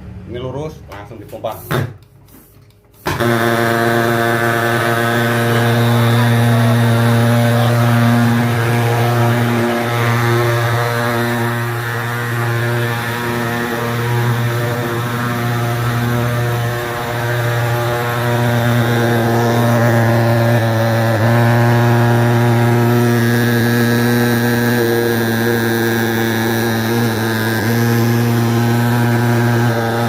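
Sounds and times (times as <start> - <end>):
pulse-jet engine droning: 3.2 - 30.0.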